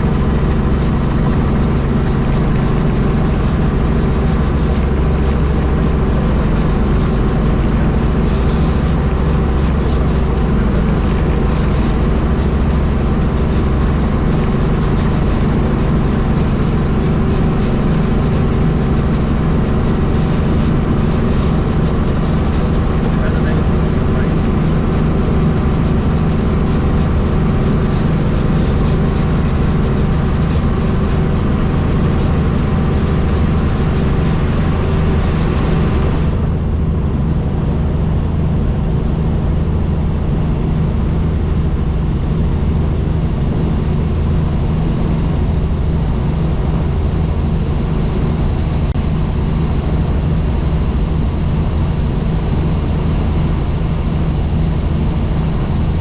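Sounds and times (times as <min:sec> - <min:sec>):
helicopter rotor throb: 0:00.0 - 0:56.0.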